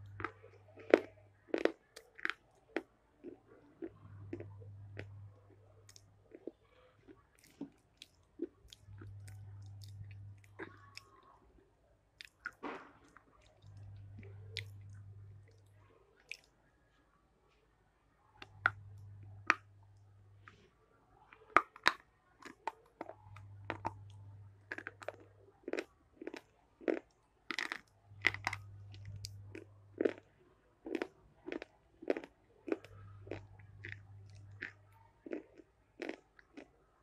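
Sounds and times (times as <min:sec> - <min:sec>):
person chewing crunchy food: 0:00.0 - 0:11.2, 0:12.2 - 0:15.6, 0:21.4 - 0:36.8.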